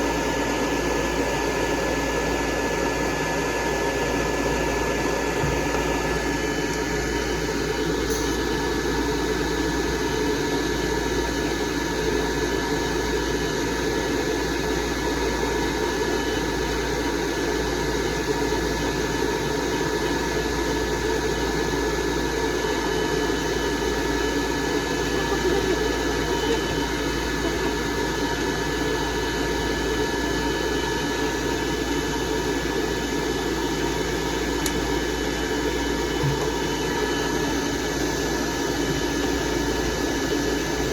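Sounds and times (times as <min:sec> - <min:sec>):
blow dryer running: 0:00.0 - 0:40.9.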